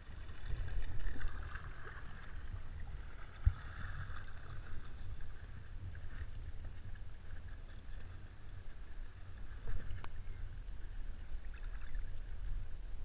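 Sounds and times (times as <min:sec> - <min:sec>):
water sloshing at microphone: 0:00.0 - 0:13.0.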